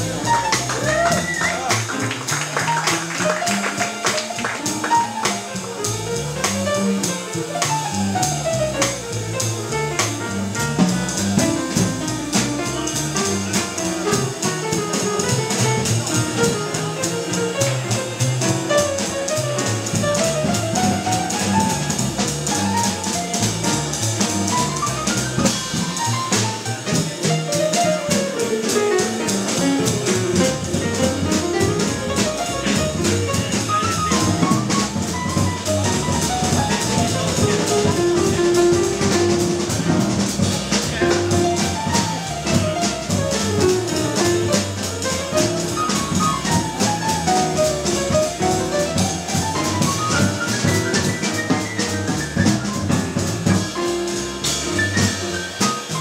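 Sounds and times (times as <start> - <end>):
drum kit with cymbals: 0.0 - 56.0
grand piano fast runs: 0.0 - 56.0
upright double bass: 0.0 - 56.0.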